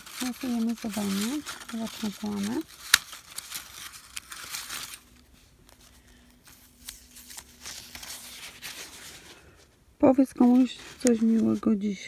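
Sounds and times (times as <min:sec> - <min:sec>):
paper crinkling and tearing: 0:00.0 - 0:09.7, 0:10.3 - 0:12.0.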